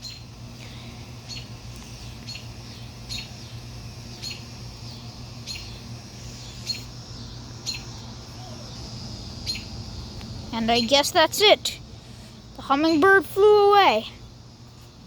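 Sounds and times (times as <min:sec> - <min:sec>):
hummingbird chip calls: 0:00.0 - 0:14.5
steady low hum: 0:00.0 - 0:15.0.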